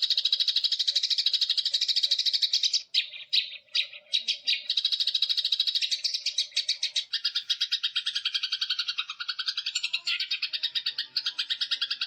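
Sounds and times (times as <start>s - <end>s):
songbird chattering trill: 0.0s - 12.0s.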